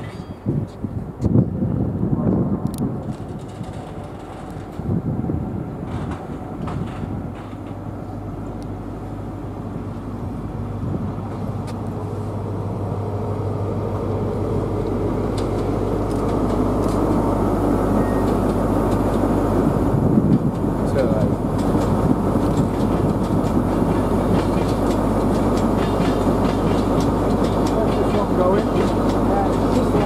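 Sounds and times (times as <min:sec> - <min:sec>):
electric train approaching: 0:01.5 - 0:30.0.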